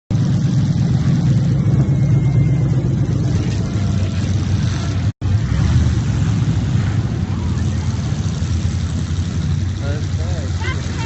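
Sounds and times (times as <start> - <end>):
car engines rumbling: 0.1 - 11.0.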